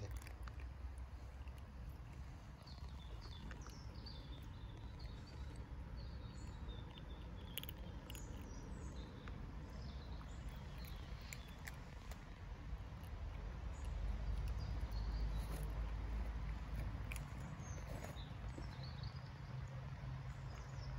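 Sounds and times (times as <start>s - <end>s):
low outdoor rumble: 0.0s - 20.9s
small birds chirping: 0.0s - 20.9s.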